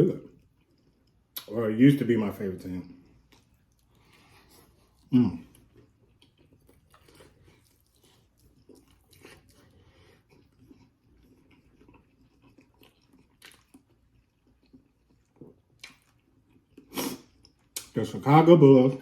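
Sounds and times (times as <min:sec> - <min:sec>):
person chewing: 0:00.2 - 0:01.6, 0:02.9 - 0:18.0.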